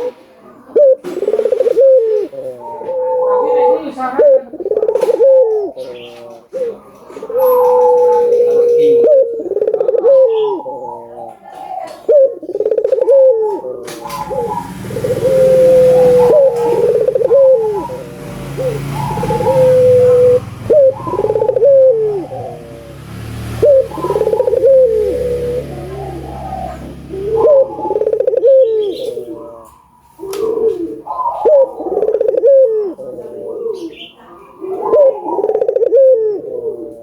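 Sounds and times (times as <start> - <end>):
dove cooing: 0.0 - 37.0.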